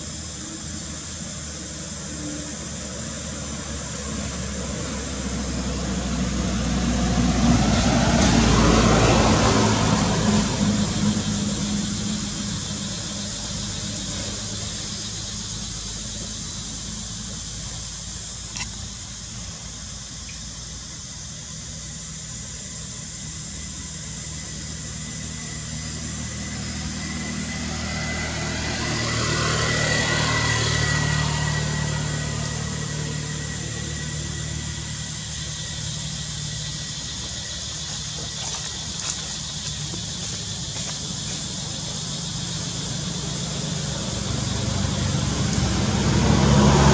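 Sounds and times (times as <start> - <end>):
engine idling hum: 0.0 - 46.9
high hiss: 0.0 - 46.9.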